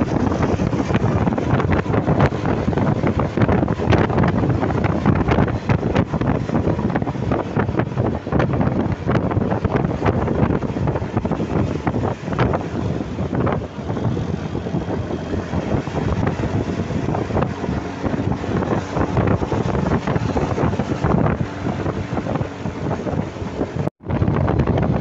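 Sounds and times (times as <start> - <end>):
road and engine rumble: 0.0 - 25.0
wind buffeting microphone: 0.0 - 25.0.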